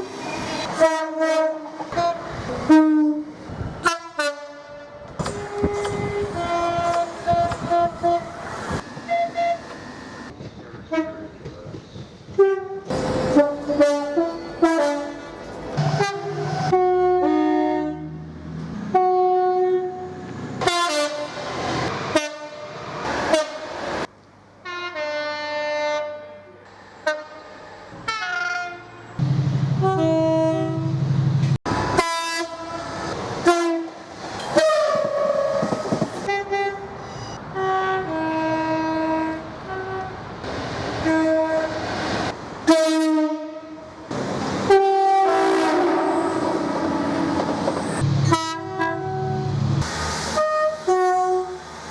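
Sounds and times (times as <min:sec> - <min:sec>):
two-tone train horn blasts: 0:00.7 - 0:10.3, 0:10.9 - 0:11.4, 0:12.3 - 0:18.2, 0:18.8 - 0:21.5, 0:22.1 - 0:23.8, 0:24.6 - 0:31.0, 0:31.9 - 0:40.3, 0:41.0 - 0:41.8, 0:42.6 - 0:44.0, 0:44.7 - 0:47.5, 0:48.1 - 0:49.6, 0:50.3 - 0:51.7.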